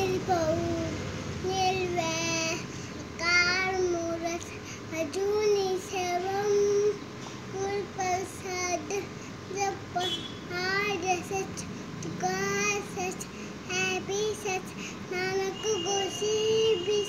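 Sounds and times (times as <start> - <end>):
boy singing solo: 0.0 - 17.0.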